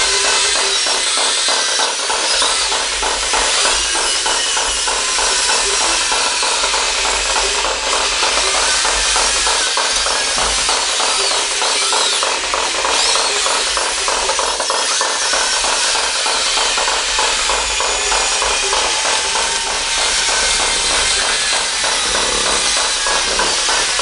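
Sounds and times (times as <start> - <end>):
small electric motors whirring: 0.0 - 24.0.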